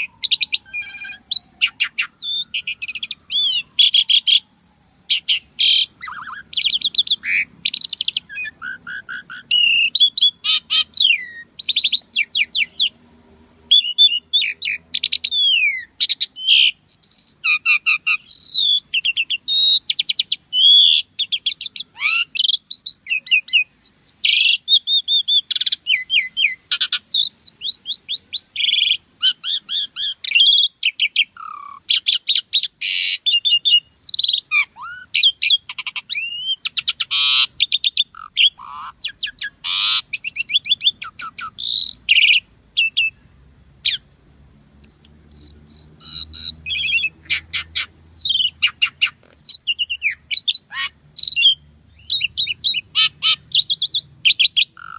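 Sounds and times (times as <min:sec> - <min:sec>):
starling singing: 0:00.0 - 0:44.1, 0:44.8 - 0:54.9.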